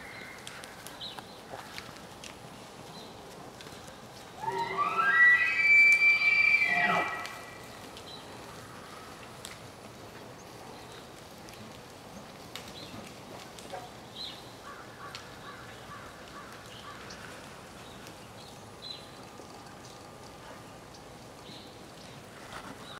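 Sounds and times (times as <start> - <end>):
faint outdoor ambience: 0.0 - 22.9.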